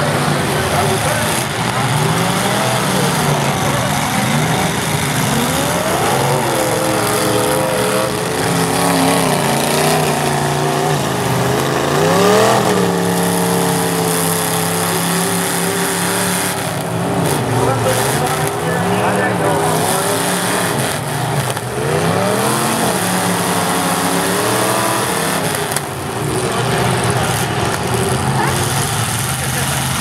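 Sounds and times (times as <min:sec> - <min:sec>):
car engines revving: 0:00.0 - 0:30.0
cars ramming each other: 0:00.0 - 0:30.0.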